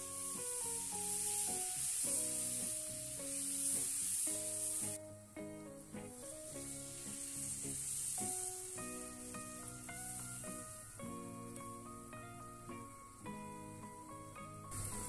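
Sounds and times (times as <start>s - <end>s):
broth pouring into pan: 0.0s - 5.0s, 5.6s - 13.0s, 14.6s - 15.0s
background music: 0.0s - 15.0s
butter and garlic sizzling in pan: 0.0s - 15.0s.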